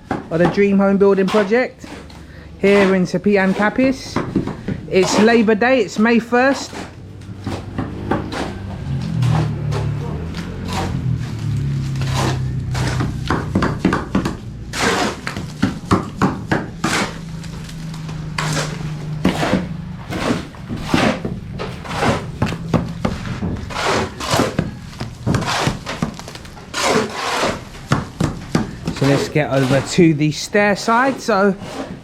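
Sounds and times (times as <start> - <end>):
tools knocking and scraping masonry: 0.0 - 32.0.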